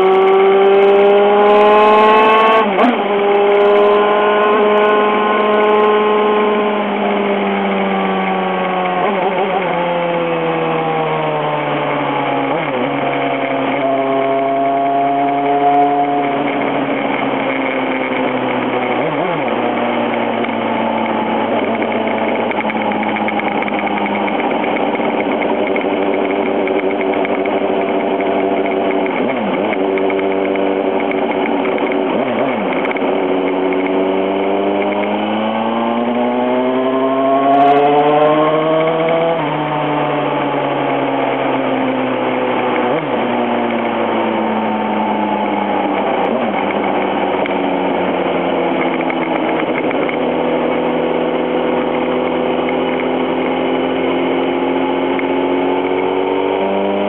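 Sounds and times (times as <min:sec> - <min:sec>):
motorcycle engine revs falling: 0:00.0 - 0:57.0.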